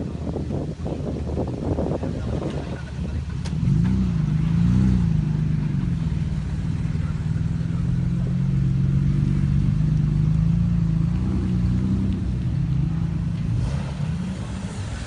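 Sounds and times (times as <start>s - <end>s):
off-road vehicle engine revving: 1.3s - 15.0s.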